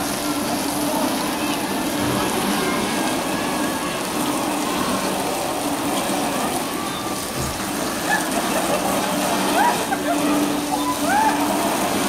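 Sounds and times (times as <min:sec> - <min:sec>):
amusement ride hiss: 0:00.0 - 0:12.0.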